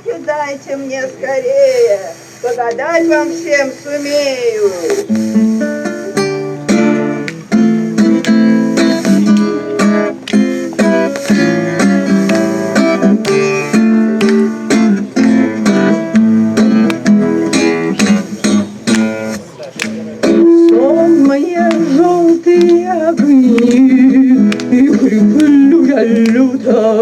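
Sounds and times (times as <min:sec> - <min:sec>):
acoustic guitar strumming: 0:00.0 - 0:27.0
person singing: 0:01.1 - 0:19.4, 0:20.2 - 0:27.0.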